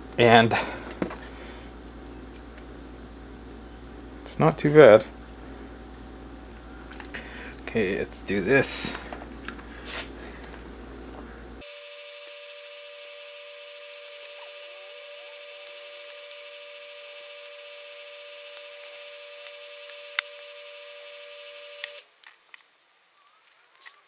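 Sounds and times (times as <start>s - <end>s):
steady two-tone whine: 0.0s - 22.0s.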